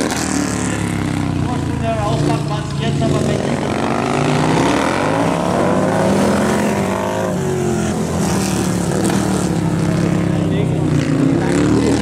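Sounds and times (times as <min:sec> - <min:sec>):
motorcycles racing: 0:00.0 - 0:12.0.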